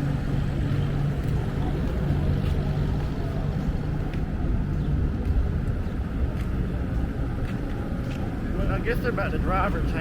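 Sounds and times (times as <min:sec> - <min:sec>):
race car engines rumbling: 0:00.0 - 0:10.0.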